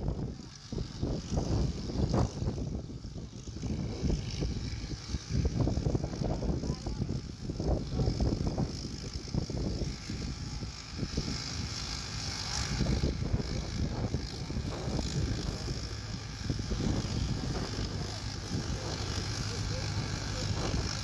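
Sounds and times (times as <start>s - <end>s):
tractor engine under load: 0.1s - 21.0s.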